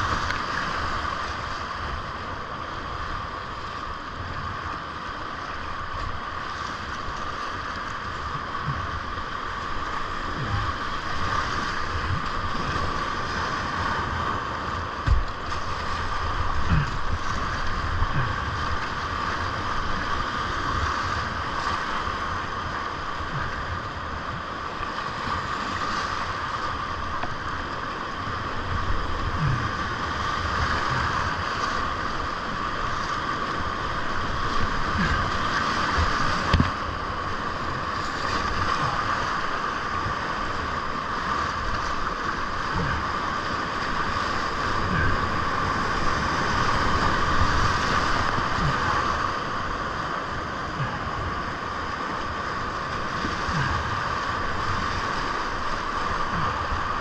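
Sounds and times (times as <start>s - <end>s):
waves splashing: 0.0s - 57.0s
waves thumping on boat: 0.0s - 57.0s
whitewater rapids rushing: 0.0s - 57.0s.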